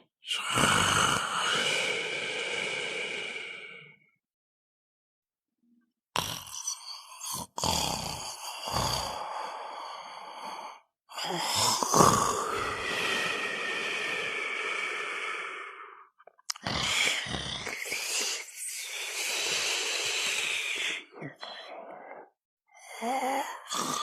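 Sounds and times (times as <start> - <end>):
person snoring: 0.0 - 4.1, 6.2 - 24.0.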